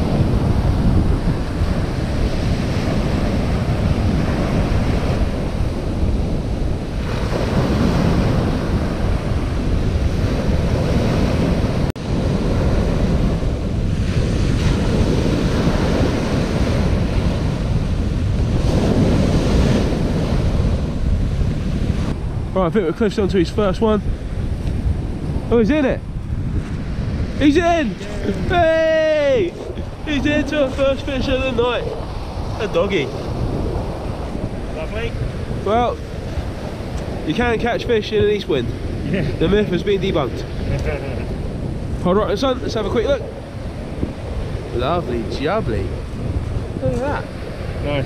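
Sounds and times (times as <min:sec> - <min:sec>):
surf breaking on shingle beach: 0:00.0 - 0:25.9, 0:26.5 - 0:47.9
wind buffeting microphone: 0:00.0 - 0:48.0.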